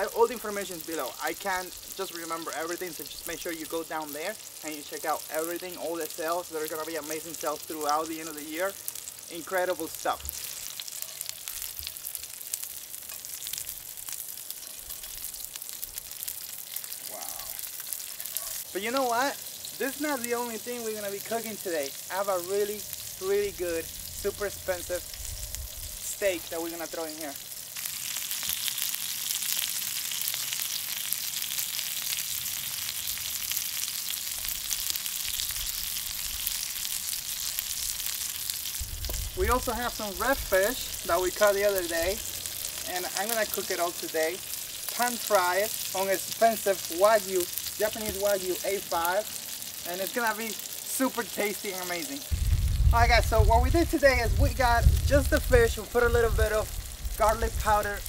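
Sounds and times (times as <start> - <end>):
fish sizzling in a skillet: 0.0 - 58.0.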